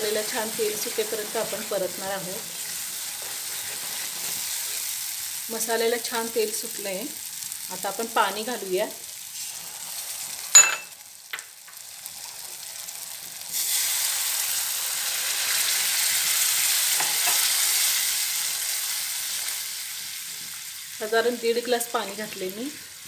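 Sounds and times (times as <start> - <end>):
loud hissing sizzle: 0.0 - 23.0
quiet frying sizzle: 0.0 - 23.0.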